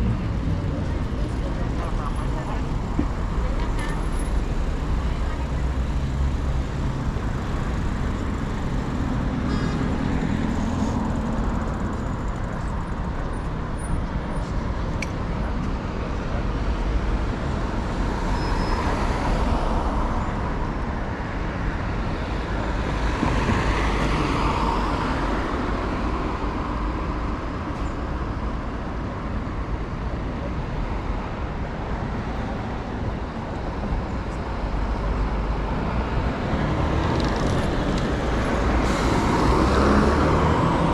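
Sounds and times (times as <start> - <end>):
traffic rumble: 0.0 - 40.9
vehicles passing by: 0.0 - 40.9.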